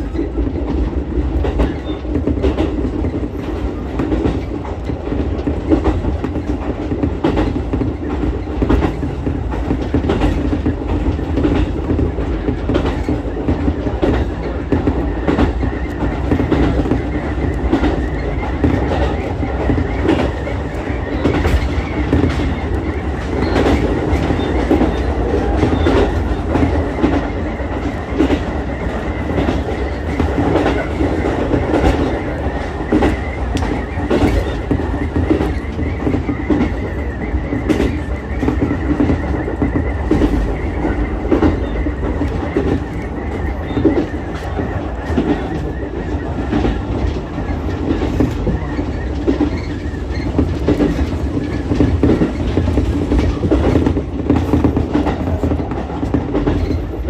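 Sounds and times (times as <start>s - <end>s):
train rumbling: 0.0s - 57.0s
wheels clicking over rail joints: 0.0s - 57.0s.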